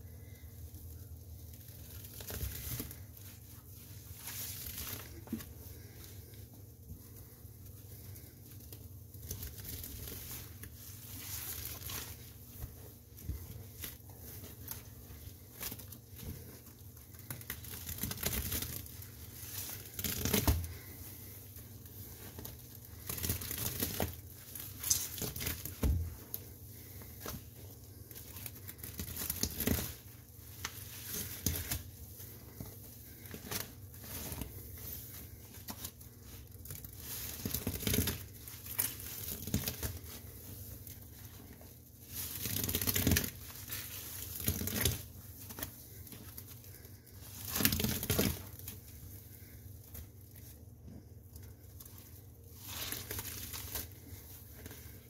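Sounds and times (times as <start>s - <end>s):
soapy sponge squished by hand: 0.2s - 55.0s.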